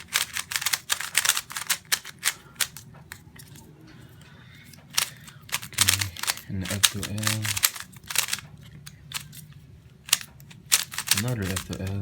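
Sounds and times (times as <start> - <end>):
puzzle cube clicking while turned: 0.0 - 3.6, 4.6 - 12.0.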